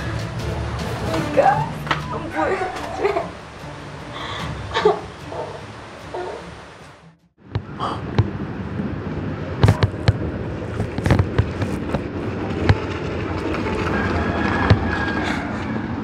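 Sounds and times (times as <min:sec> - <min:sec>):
outdoor rumble: 0:00.0 - 0:16.0.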